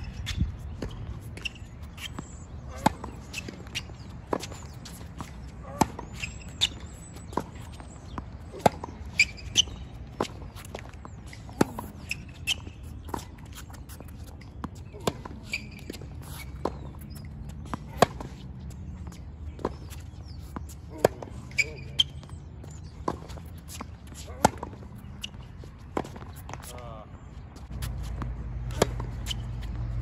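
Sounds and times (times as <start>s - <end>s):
shoes squeaking on court: 0.0s - 30.0s
tennis balls bouncing on court: 0.1s - 30.0s
tennis balls struck by racquets: 0.2s - 26.9s, 27.7s - 30.0s.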